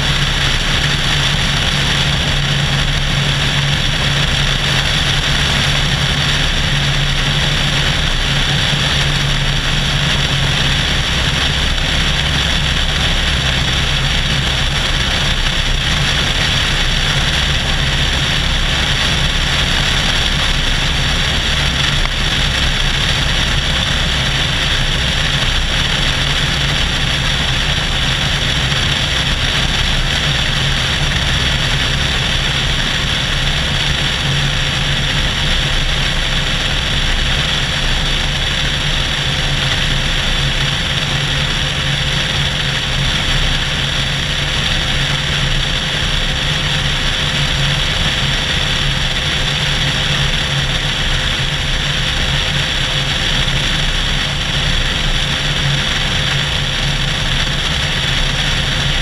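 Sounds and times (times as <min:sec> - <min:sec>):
airplane engine and propeller: 0:00.0 - 0:59.0.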